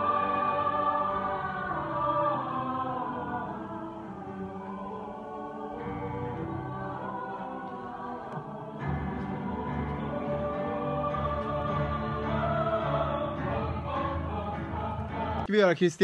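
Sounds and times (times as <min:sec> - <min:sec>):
choir singing held chords: 0:00.0 - 0:15.5.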